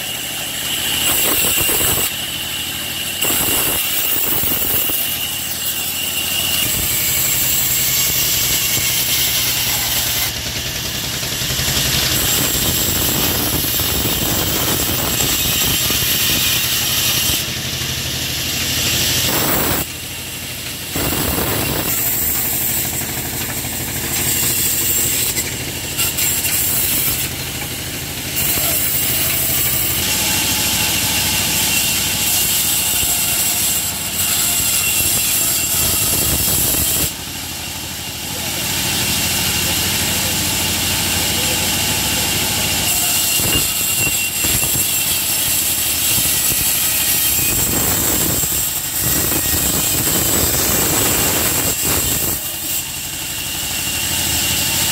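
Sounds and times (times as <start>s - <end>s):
band saw cutting wood: 0.0s - 54.9s.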